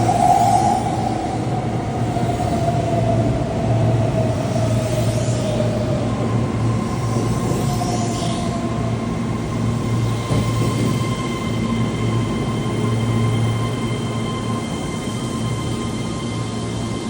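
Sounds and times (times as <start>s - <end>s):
train rumble with low hum: 0.0s - 17.0s.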